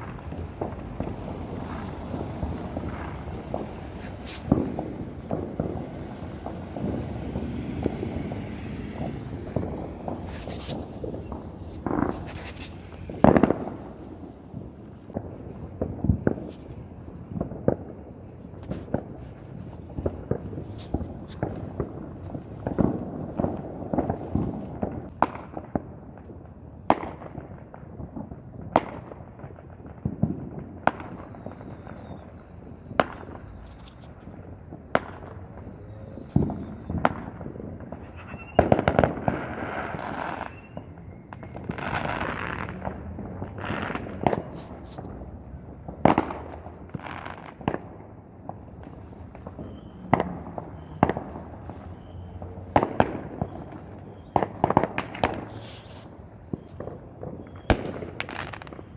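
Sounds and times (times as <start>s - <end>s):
fireworks bangs: 0.0s - 58.9s
fireworks crackling: 0.0s - 58.9s.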